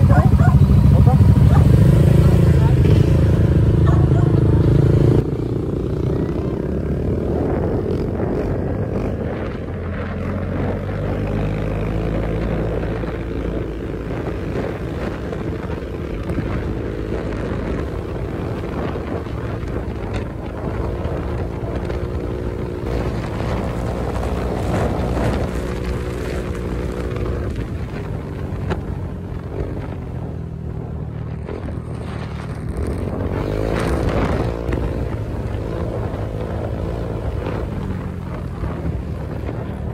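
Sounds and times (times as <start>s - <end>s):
scooter engine running: 0.0s - 39.9s
wind and road noise: 0.0s - 39.9s.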